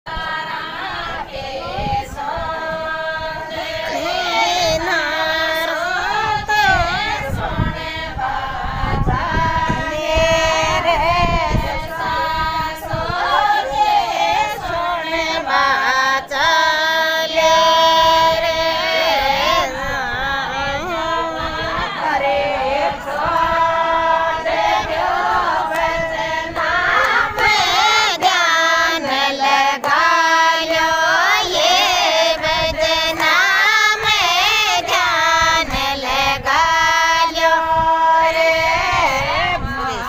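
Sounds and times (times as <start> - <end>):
women singing folk song together: 0.1 - 40.0.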